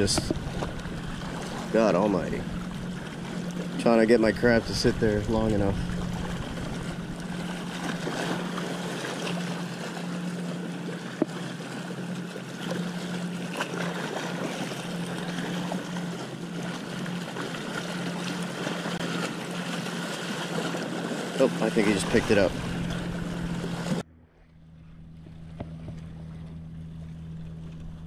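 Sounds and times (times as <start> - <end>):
boat motor humming: 0.0 - 28.0
water noise: 0.0 - 28.0
wind: 0.0 - 28.0.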